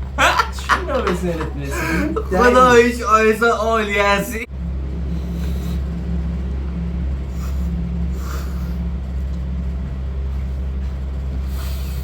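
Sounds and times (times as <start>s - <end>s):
low rumble and hum: 0.0s - 12.0s.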